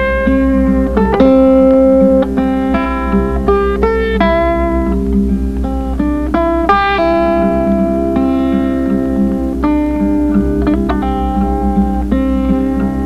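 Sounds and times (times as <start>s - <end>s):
plucked melody: 0.0s - 13.0s
pulsing low bass: 0.0s - 13.0s.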